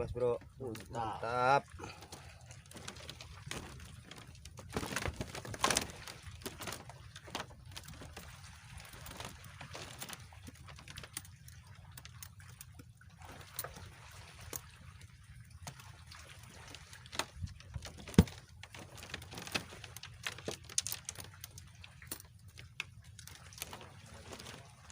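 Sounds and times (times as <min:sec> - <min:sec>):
water sloshing and trickling: 0:00.0 - 0:24.9.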